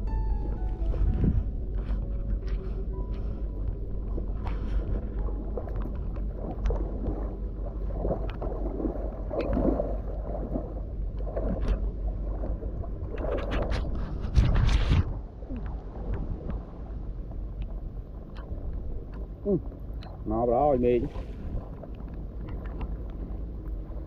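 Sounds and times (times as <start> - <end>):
shallow water sloshing: 0.0 - 24.0
wind buffeting microphone: 0.0 - 24.0.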